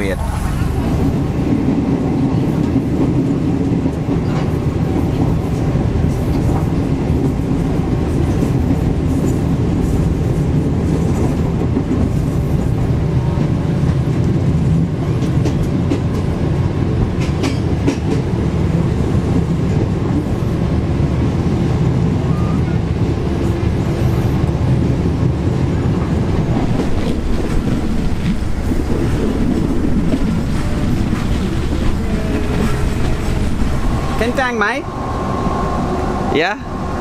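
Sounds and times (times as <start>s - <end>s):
train wheels rumbling: 0.0s - 37.0s.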